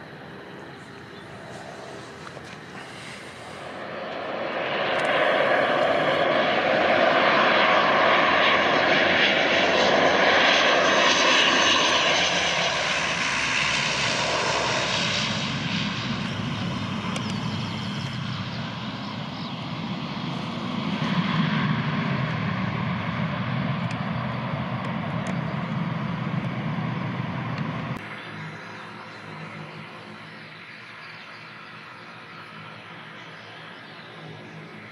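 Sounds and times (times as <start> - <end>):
turboprop plane engines droning: 0.0 - 34.9.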